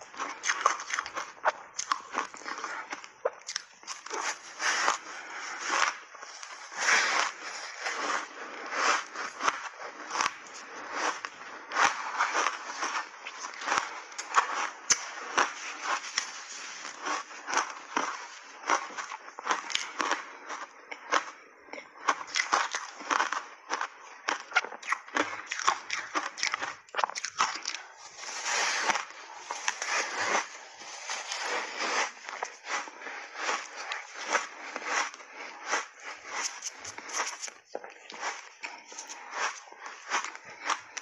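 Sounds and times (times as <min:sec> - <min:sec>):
crunching ice between teeth: 0:00.0 - 0:41.0.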